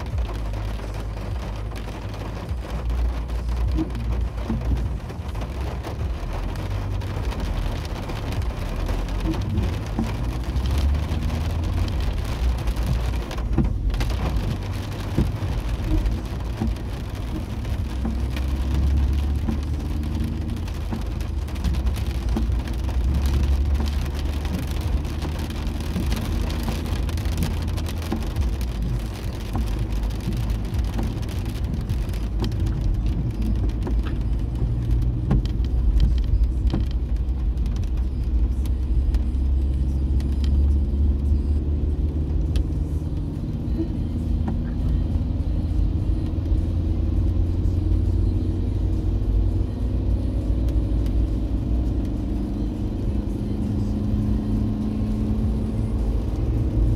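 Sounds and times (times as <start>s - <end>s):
car engine and tyres rumbling: 0.0s - 56.9s.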